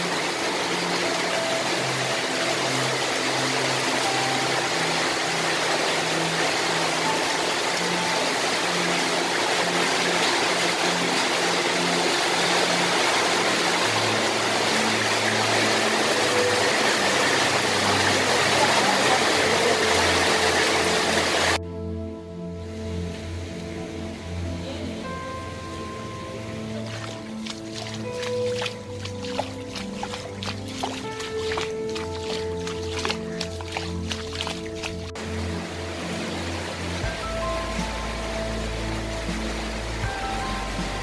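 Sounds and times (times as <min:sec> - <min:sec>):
heavy rain falling: 0:00.0 - 0:21.6, 0:26.6 - 0:41.0
faint music: 0:00.0 - 0:41.0.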